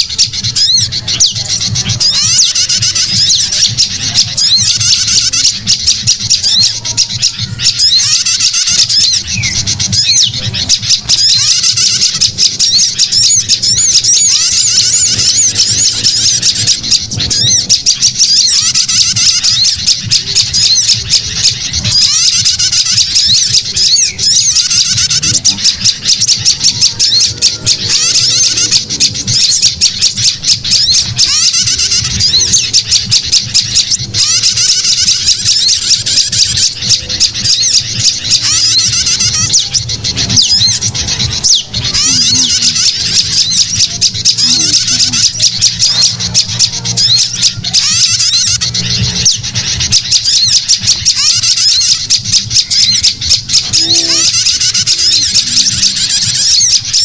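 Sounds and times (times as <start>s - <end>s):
songbirds twittering: 0.0s - 57.0s.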